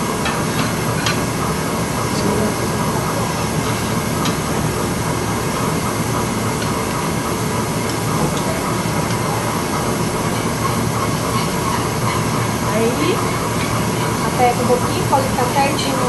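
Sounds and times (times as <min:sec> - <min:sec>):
restaurant kitchen rushing noise: 0:00.0 - 0:16.0.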